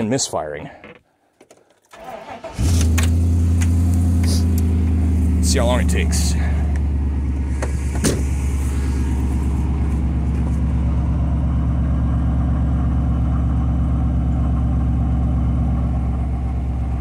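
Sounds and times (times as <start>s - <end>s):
truck engine idling: 2.0s - 17.0s.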